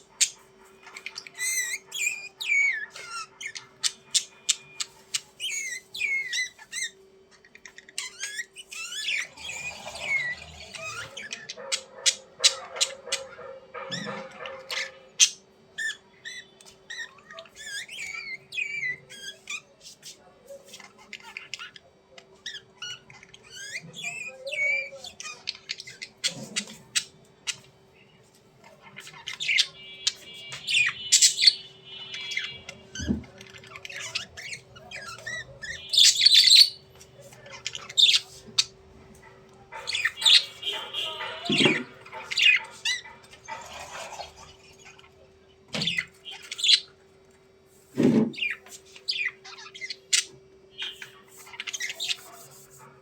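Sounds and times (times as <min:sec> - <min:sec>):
budgerigars chirping and squawking: 0:00.0 - 0:53.0.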